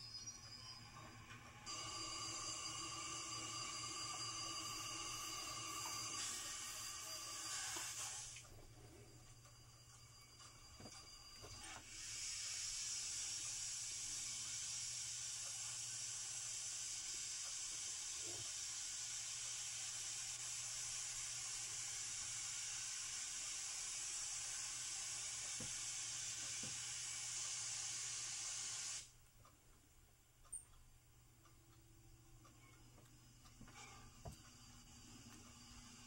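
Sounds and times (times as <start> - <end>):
steam locomotive hissing steam: 0.0 - 9.2, 10.4 - 29.1, 33.7 - 36.0.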